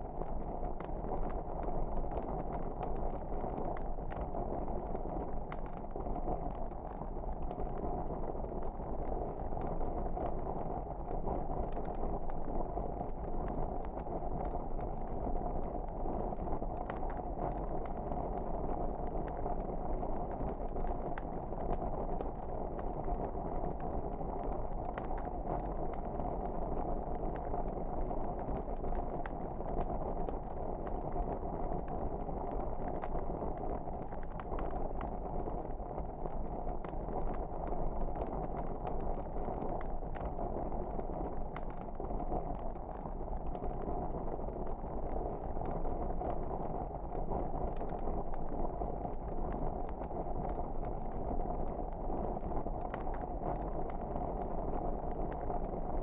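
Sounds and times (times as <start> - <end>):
fire crackling in fireplace: 0.0 - 56.0.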